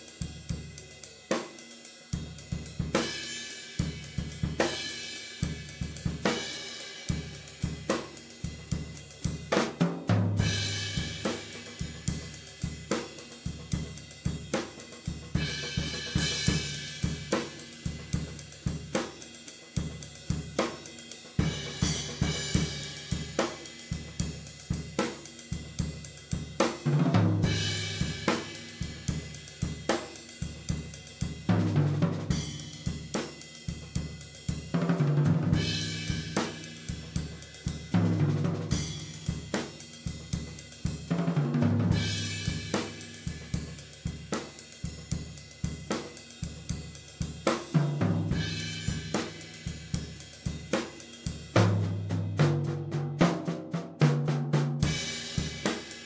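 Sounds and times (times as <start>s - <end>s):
drum kit playing a steady beat: 0.0s - 56.0s.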